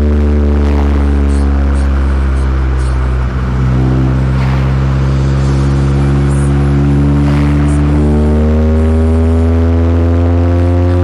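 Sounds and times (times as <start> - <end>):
car engine cruising: 0.0 - 11.0.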